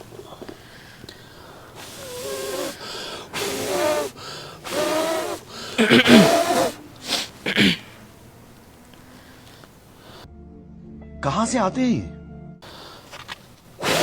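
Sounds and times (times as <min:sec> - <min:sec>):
person blowing hard: 0:00.0 - 0:10.2, 0:12.6 - 0:14.0.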